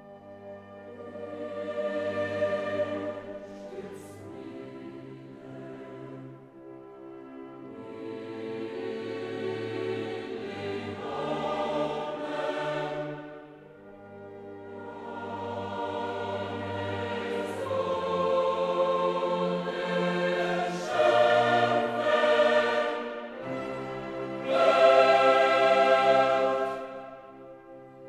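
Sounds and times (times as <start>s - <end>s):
choir singing with orchestra: 0.0s - 28.0s.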